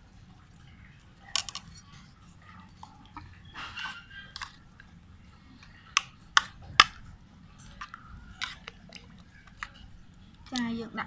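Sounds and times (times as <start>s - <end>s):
spoon squishing and scraping mash: 0.1s - 10.7s.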